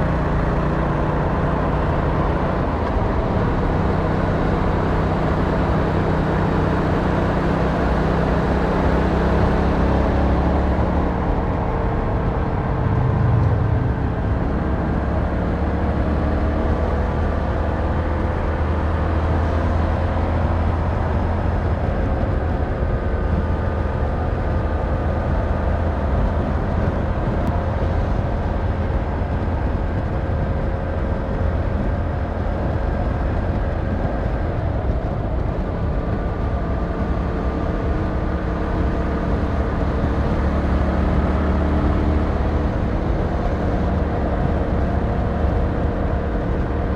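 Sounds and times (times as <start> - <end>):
motorcycle engine cruising: 0.0 - 46.9
road noise: 0.0 - 46.9.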